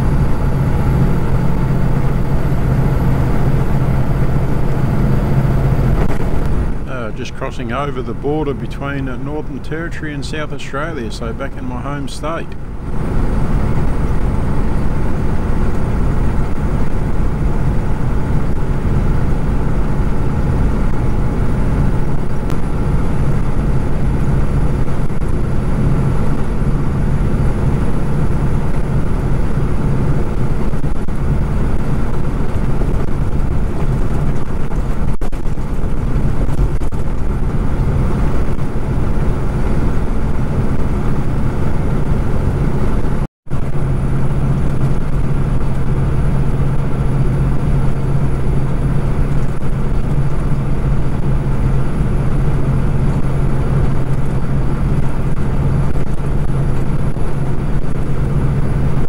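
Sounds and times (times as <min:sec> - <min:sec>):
diesel truck engine under load: 0:00.0 - 0:59.0
road and tyre noise: 0:00.0 - 0:59.0.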